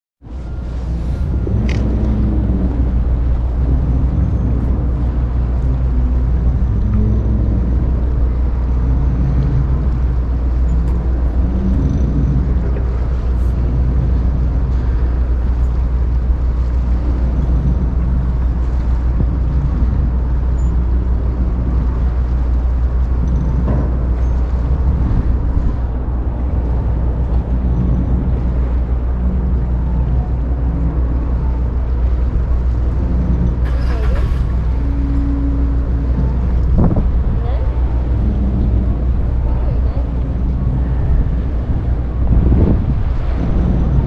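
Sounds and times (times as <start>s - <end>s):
ferry engine rumbling: 0.2s - 44.0s.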